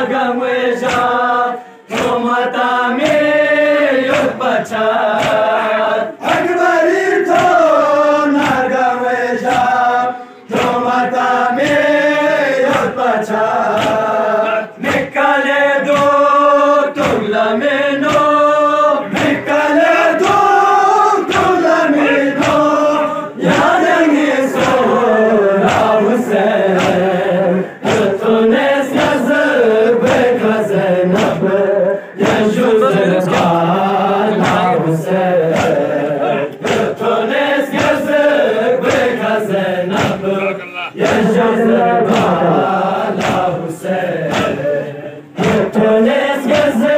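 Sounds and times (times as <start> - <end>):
men chanting a lament: 0.0 - 46.9
chest-beating slaps: 0.6 - 1.3, 1.9 - 46.9.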